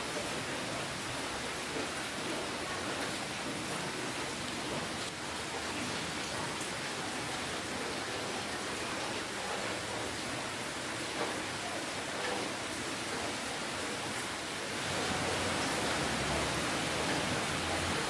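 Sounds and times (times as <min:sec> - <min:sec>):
rain hissing: 0:00.0 - 0:18.0
raindrop ticks: 0:01.6 - 0:18.0.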